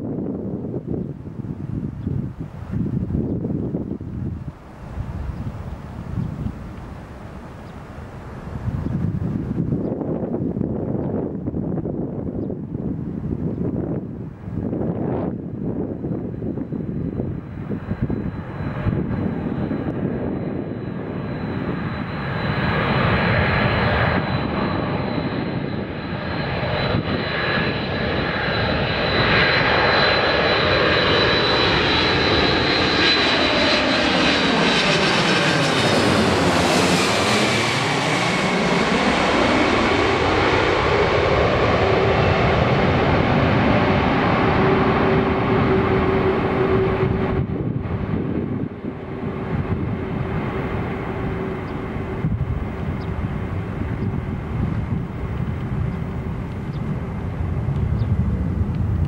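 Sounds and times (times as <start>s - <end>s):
high fan whine: 0.0s - 59.0s
jet passing low overhead: 0.0s - 59.0s.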